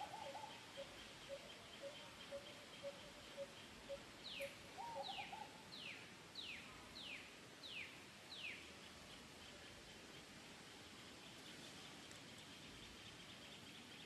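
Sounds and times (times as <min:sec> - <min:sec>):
outdoor background sound: 0:00.0 - 0:14.0.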